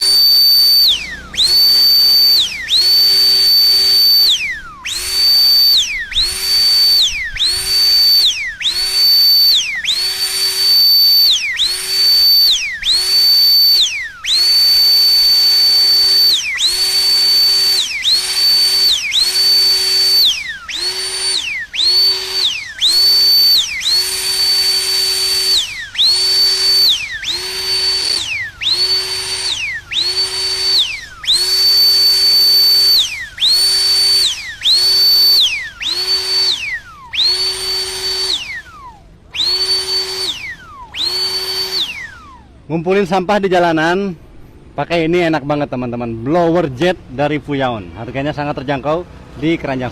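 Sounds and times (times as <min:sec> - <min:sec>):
blower fan whining: 0:00.0 - 0:49.9.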